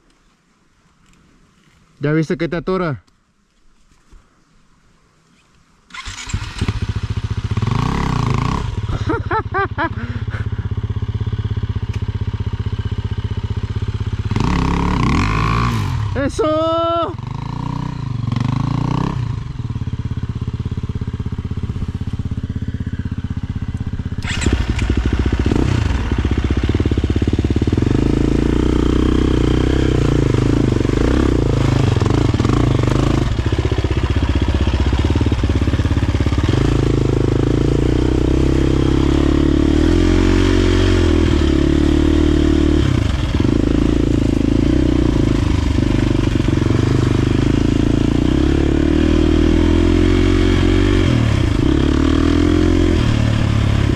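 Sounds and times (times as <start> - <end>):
dirt bike engine revving: 5.9 - 53.9.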